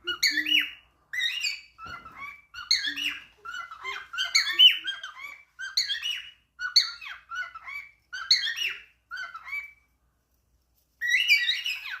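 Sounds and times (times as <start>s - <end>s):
cockatiel chattering and whistling: 0.0s - 9.8s, 11.0s - 12.0s.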